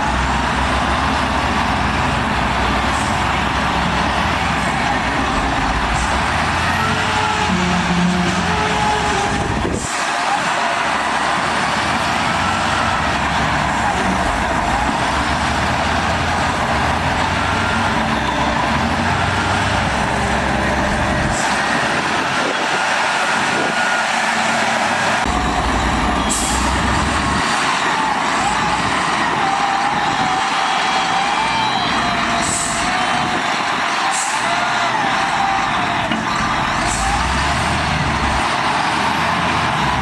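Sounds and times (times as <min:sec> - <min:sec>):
diesel earthmoving machinery engine: 0:00.0 - 0:40.0.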